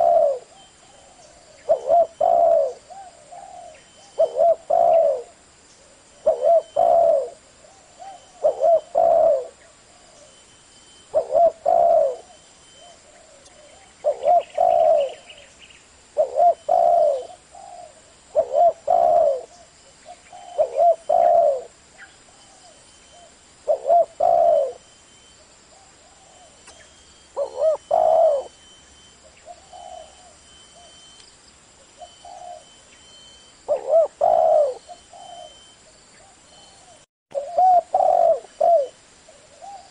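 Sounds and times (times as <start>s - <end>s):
dove cooing: 0.0s - 10.4s, 11.1s - 15.5s, 16.1s - 24.9s, 25.7s - 31.2s, 31.9s - 39.9s.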